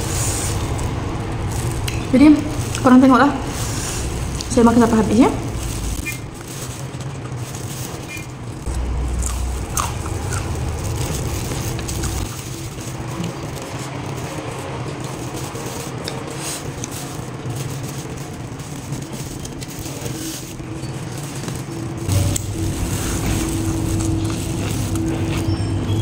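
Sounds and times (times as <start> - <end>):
chewing and crunching greens: 0.0 - 26.0
handling clicks and scrapes: 0.0 - 26.0
low mechanical hum: 0.0 - 26.0.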